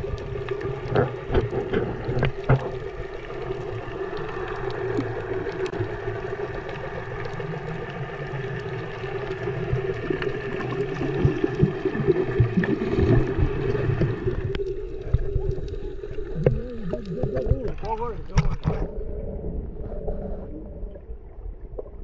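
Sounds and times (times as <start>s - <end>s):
low watery rumble: 0.0s - 22.0s
muffled underwater hum: 0.0s - 22.0s.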